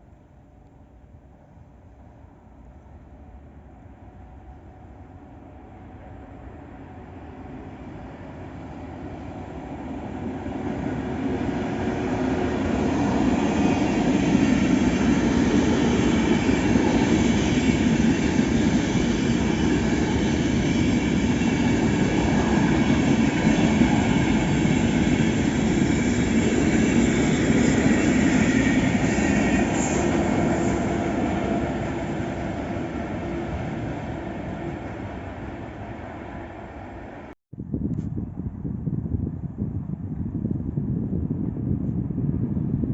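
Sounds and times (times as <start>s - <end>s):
train rumble and rail noise: 0.0s - 42.9s.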